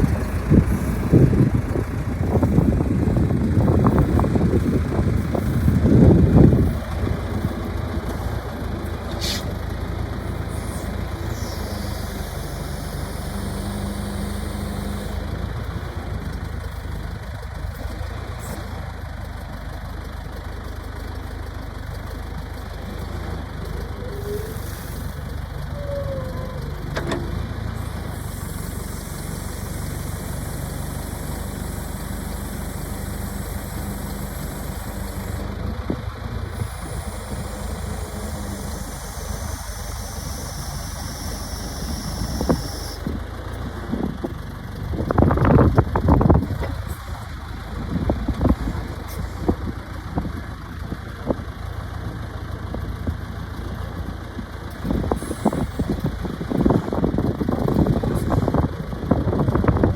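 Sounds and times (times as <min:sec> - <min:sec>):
backhoe engine idling: 0:00.0 - 0:59.9.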